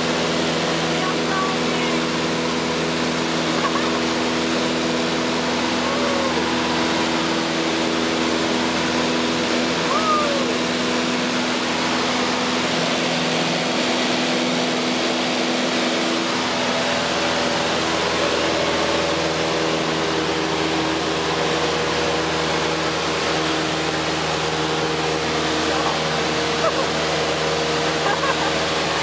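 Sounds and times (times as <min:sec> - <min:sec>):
propeller engine droning: 0:00.0 - 0:29.0.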